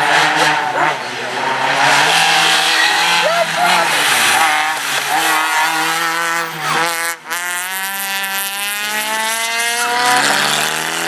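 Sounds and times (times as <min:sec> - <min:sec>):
rally car accelerating: 0:00.0 - 0:11.0
rally car engines revving: 0:00.0 - 0:11.0.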